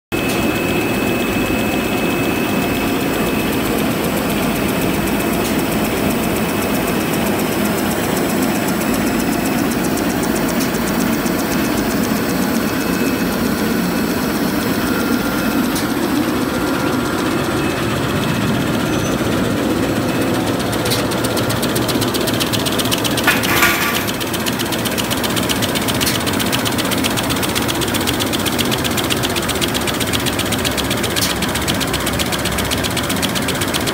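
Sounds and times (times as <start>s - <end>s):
machine clattering: 0.2s - 33.9s.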